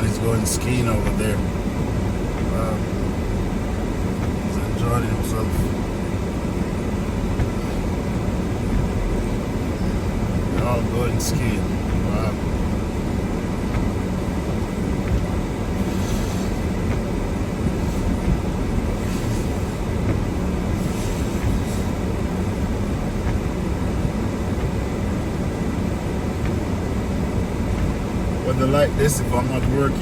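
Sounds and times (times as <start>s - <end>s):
storm wind against car: 0.0s - 30.0s.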